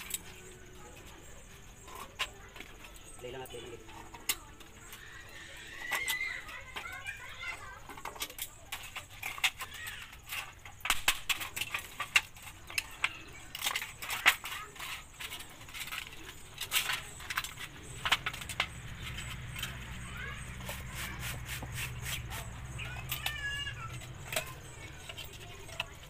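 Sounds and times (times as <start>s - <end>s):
metal sheet clinking and scraping: 0.0s - 26.0s.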